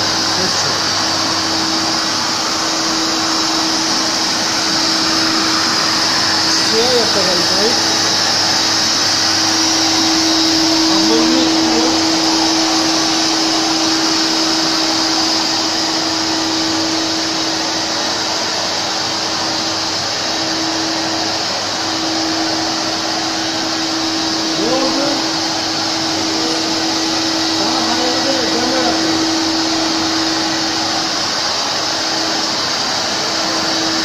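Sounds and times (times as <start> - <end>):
floor scrubber motors whirring: 0.0 - 34.0.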